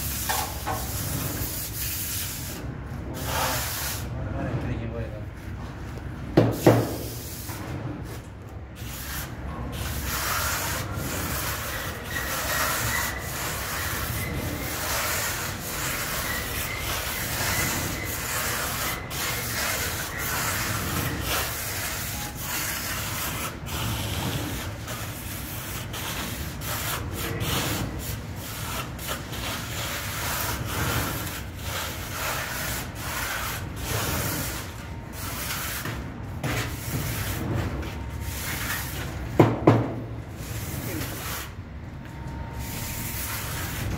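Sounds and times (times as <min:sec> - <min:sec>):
plastering float rubbing on wall: 0:00.0 - 0:04.1, 0:06.4 - 0:41.6.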